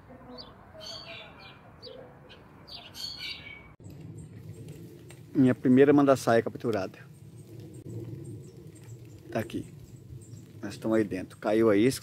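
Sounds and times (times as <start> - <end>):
birds chirping: 0.0 - 12.0
low outdoor background: 0.0 - 12.0.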